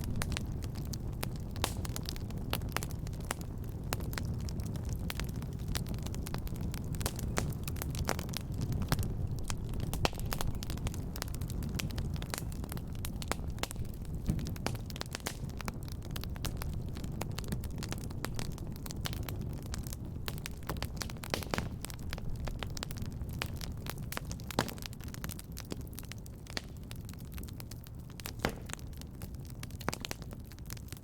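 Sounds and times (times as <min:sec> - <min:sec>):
fire crackling in a fireplace: 0:00.0 - 0:31.0.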